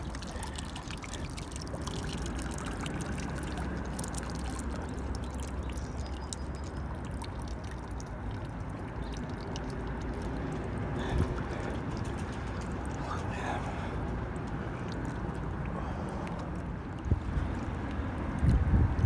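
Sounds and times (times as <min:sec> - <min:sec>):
river water rushing: 0:00.0 - 0:18.4
small ticks and splashes: 0:00.0 - 0:19.0.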